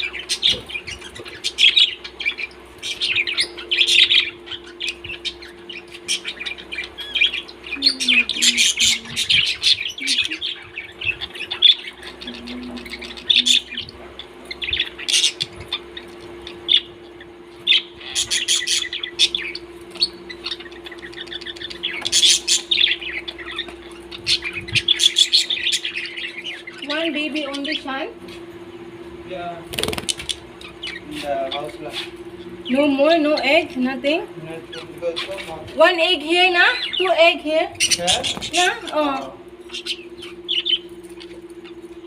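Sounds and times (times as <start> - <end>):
parrots chirping and squawking: 0.0 - 42.0
steady low hum: 0.0 - 42.0.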